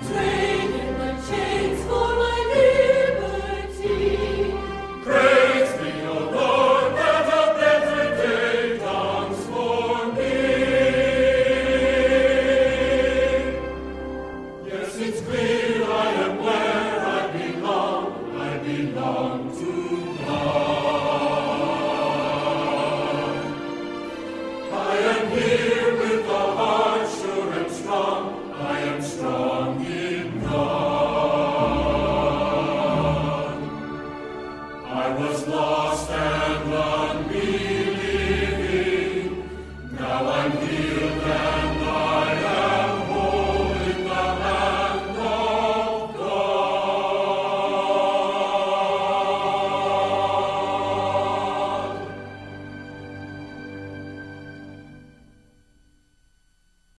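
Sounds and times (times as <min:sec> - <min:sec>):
choir singing sustained chords: 0:00.0 - 0:56.9.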